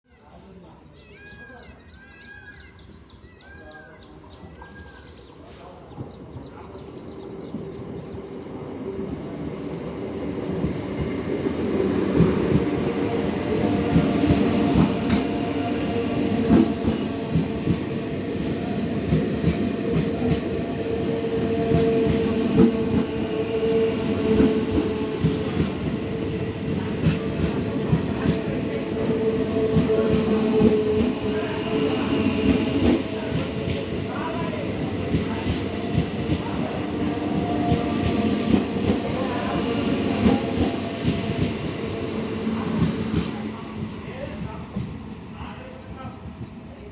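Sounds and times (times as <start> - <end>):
train passing: 1.1 - 46.9
steady train tone: 5.3 - 46.6.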